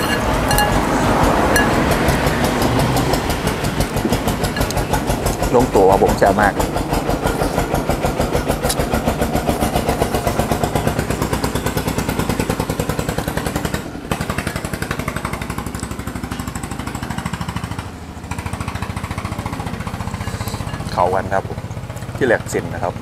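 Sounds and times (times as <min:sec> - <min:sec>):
small engine idling: 0:00.0 - 0:23.0.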